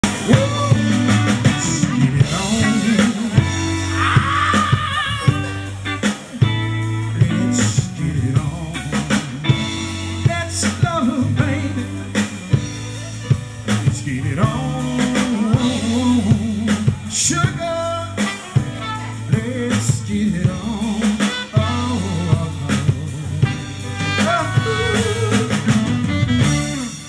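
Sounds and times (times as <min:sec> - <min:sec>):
drum kit: 0:00.0 - 0:27.0
electric bass: 0:00.0 - 0:27.0
keyboard: 0:00.0 - 0:27.0
man singing lead: 0:00.0 - 0:27.0.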